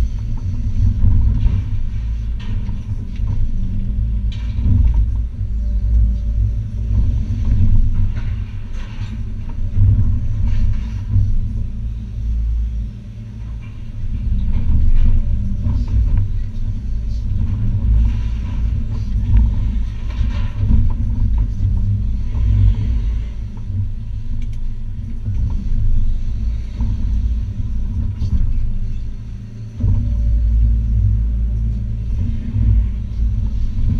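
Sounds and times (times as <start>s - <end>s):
excavator engine rumble: 0.0s - 33.9s.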